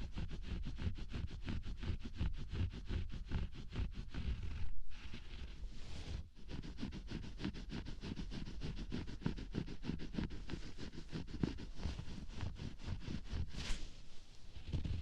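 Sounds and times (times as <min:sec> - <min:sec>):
scratching on microphone: 0:00.0 - 0:15.0.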